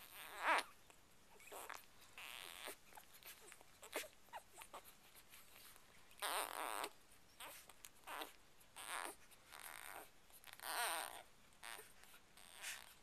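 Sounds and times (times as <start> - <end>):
puppy crying: 0.0 - 5.0, 6.2 - 13.0
puppies squeaking and whimpering: 0.0 - 13.0.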